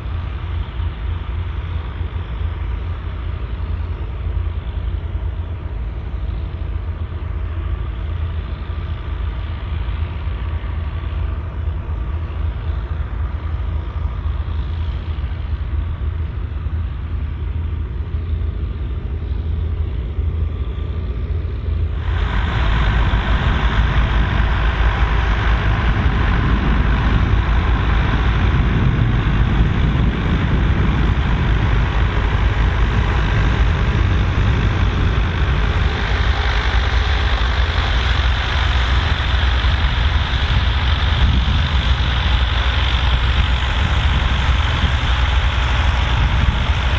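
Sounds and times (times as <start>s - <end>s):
tractor diesel engine rumbling: 0.0s - 46.9s.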